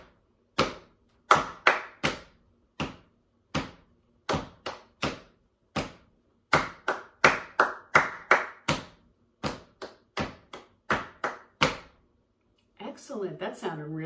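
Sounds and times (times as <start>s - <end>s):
hands clapping in rhythm: 0.0s - 12.0s.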